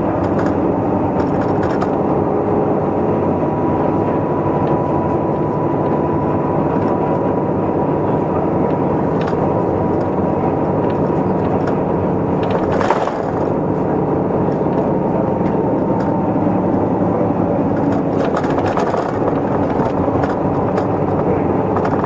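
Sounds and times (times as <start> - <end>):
bus diesel engine and road noise: 0.0 - 22.0.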